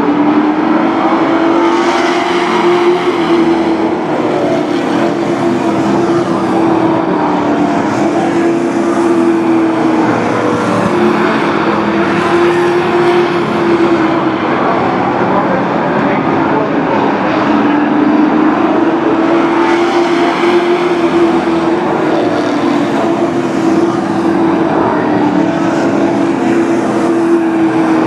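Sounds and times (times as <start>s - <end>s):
race truck engines droning: 0.0s - 28.0s.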